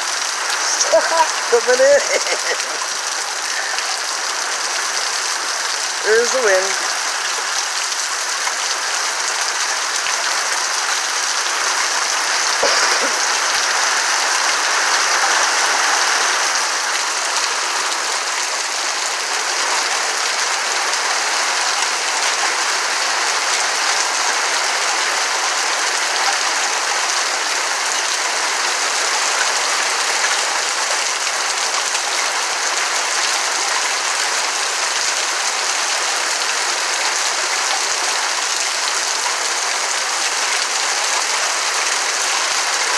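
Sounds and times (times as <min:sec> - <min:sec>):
rain on tree leaves: 0:00.0 - 0:42.9.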